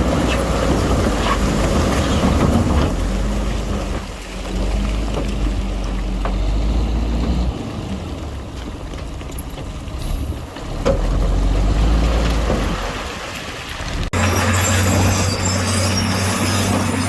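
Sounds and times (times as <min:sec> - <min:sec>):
diesel engine rumbling under load: 0:00.0 - 0:17.0.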